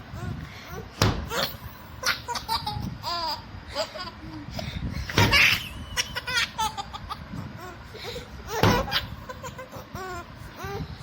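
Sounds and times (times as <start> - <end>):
baby laughing: 1.3 - 10.8.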